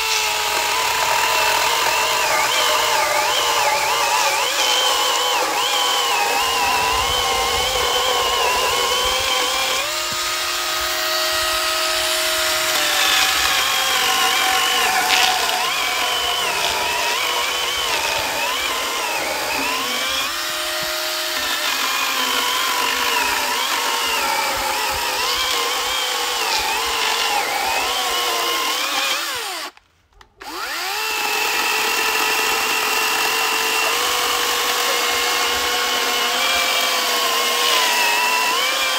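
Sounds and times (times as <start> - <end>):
electric chainsaw cutting log: 0.0 - 29.8, 30.4 - 38.9.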